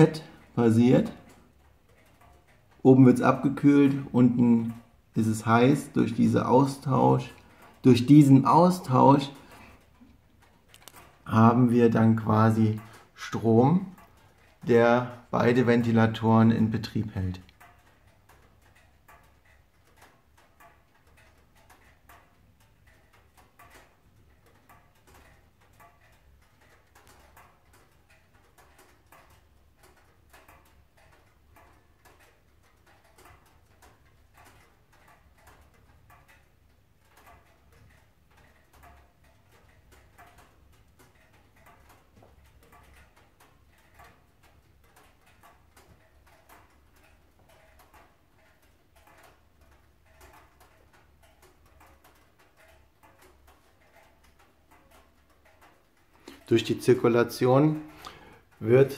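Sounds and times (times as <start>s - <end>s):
wood fire crackling in stove: 0.0s - 58.9s.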